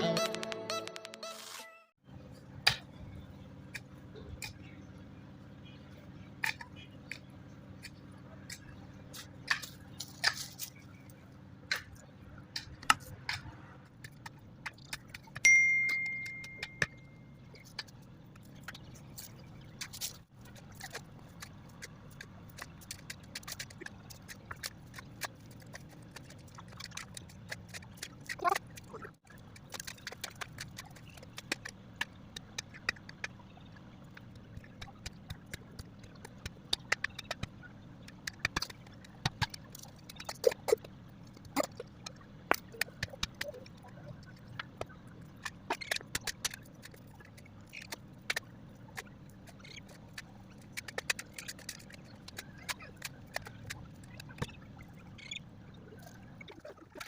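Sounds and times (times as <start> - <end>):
low steady hum: 2.0 - 57.0.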